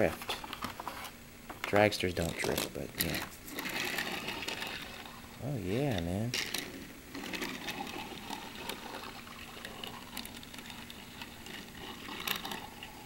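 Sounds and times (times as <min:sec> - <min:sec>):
toy car wheels rolling on wood: 0:00.0 - 0:13.0.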